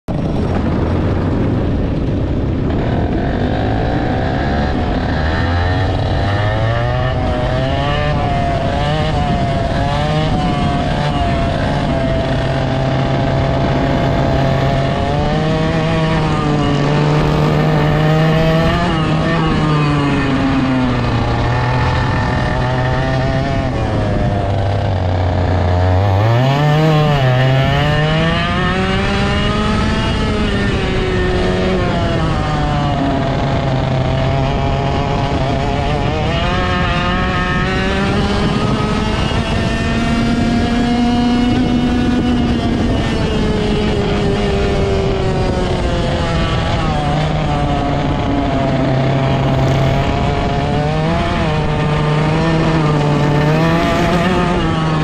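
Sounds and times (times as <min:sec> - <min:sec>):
kart engine revving: 0:00.1 - 0:55.0.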